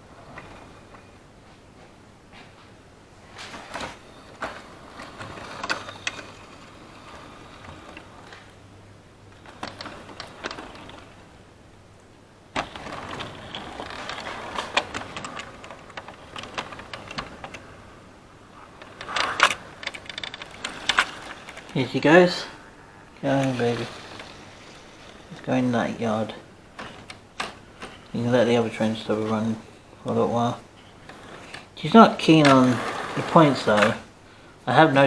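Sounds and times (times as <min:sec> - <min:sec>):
wheels clicking over rail joints: 0:00.0 - 0:35.0
model train motor hum: 0:03.3 - 0:11.8, 0:12.4 - 0:34.2.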